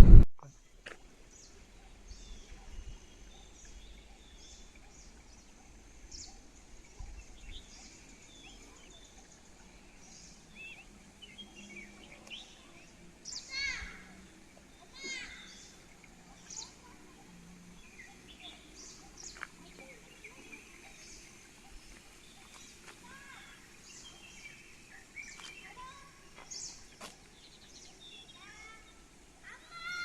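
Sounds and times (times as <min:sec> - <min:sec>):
birds chirping: 0:00.4 - 0:30.0.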